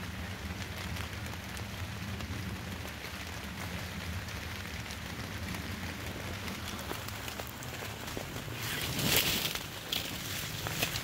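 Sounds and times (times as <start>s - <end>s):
rain drops on foliage: 0.0s - 11.0s.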